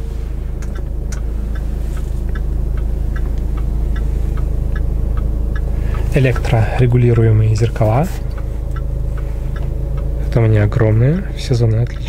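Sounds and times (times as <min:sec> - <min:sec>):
diesel engine idling: 0:00.0 - 0:12.0
hazard flasher ticking: 0:00.0 - 0:12.0.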